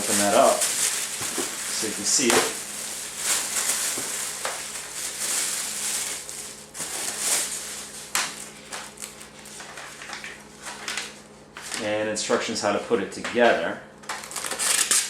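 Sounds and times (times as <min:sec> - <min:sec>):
plastic packaging crinkling: 0:00.0 - 0:12.8, 0:14.0 - 0:15.0.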